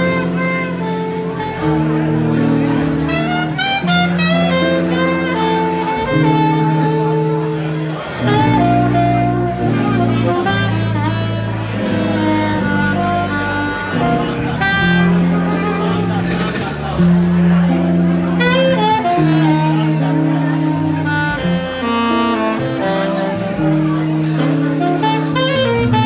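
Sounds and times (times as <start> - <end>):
alto saxophone melody: 0.0 - 26.0
drum kit: 0.0 - 26.0
electric bass: 0.0 - 26.0
electric guitar: 0.0 - 26.0.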